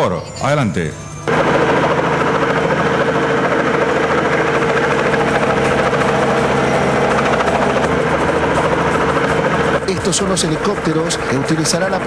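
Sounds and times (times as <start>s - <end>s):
helicopter engine drone: 1.0s - 12.0s
rotor blades chopping: 1.3s - 12.0s.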